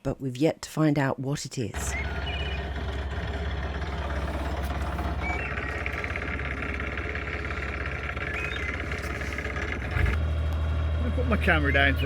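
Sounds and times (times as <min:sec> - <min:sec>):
diesel engine idling: 0:01.8 - 0:12.0.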